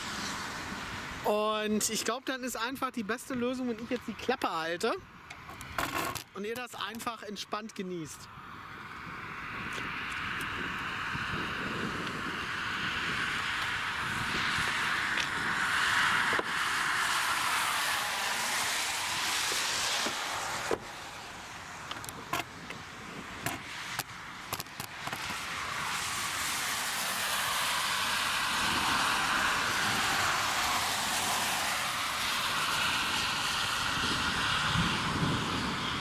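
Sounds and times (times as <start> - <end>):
cars passing on wet road: 0.0 - 2.0, 8.3 - 36.0.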